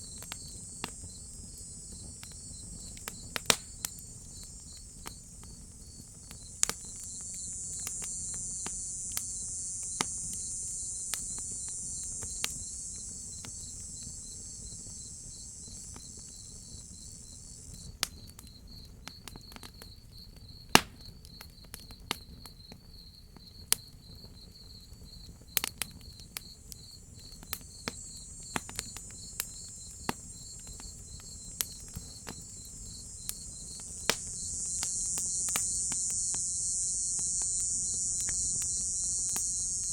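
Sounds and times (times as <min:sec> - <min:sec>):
high insect buzz: 0:00.0 - 0:18.6, 0:26.4 - 0:39.9
wood fire crackling: 0:00.0 - 0:18.7, 0:25.7 - 0:39.9
crickets chirping: 0:00.0 - 0:39.9.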